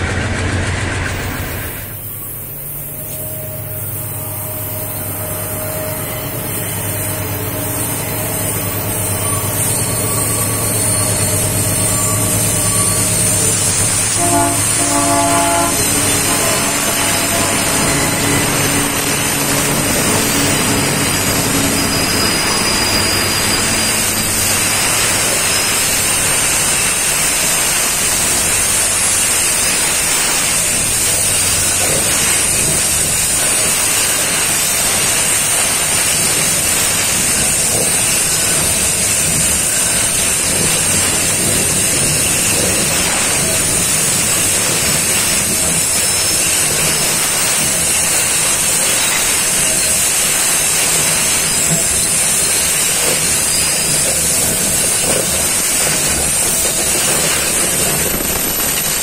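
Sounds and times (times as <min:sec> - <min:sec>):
train wheels rushing on rails: 0:00.0 - 0:59.0.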